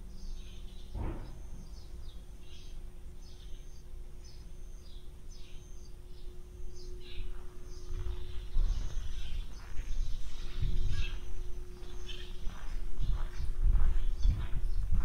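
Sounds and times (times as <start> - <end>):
low background hum: 0.0 - 15.0
small birds chirping: 0.0 - 15.0.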